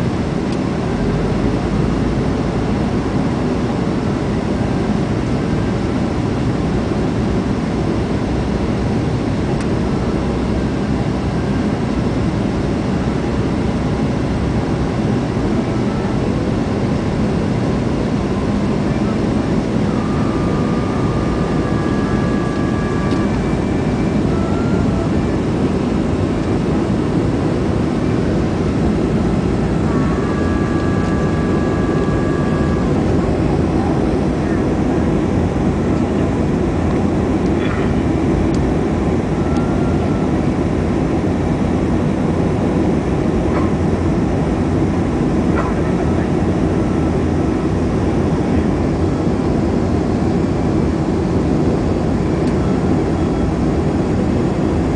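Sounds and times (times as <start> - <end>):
jet engine cabin rush: 0.0 - 54.9.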